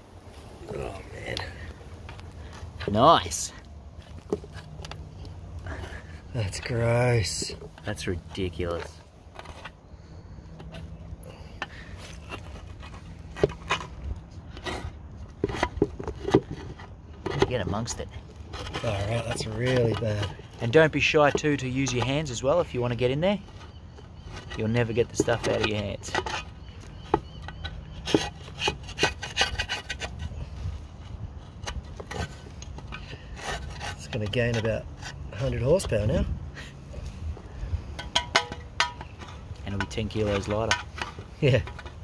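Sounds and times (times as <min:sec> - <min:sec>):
rod scraping metal: 0:03.3 - 0:31.0, 0:31.6 - 0:42.0.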